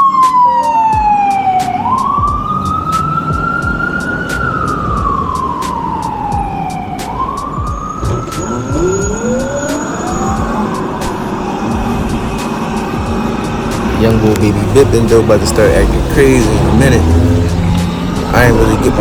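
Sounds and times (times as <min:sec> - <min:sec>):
emergency vehicle siren wailing: 0:00.0 - 0:19.0
wind and road noise: 0:00.0 - 0:19.0.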